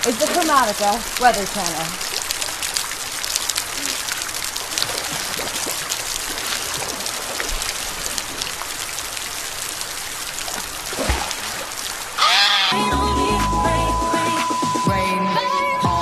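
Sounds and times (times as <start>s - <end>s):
heavy rain falling: 0.0s - 14.1s.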